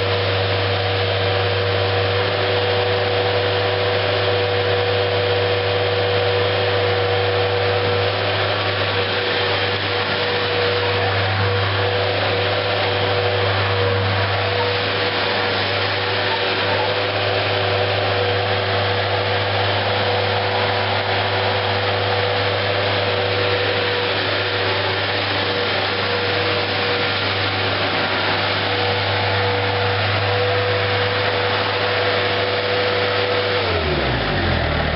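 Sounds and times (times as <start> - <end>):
diesel engine whining at high throttle: 0.0 - 34.9.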